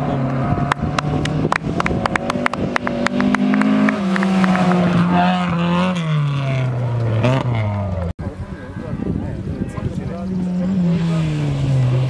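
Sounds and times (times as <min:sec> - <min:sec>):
rally car engine passing: 0:00.0 - 0:08.1, 0:10.1 - 0:12.0.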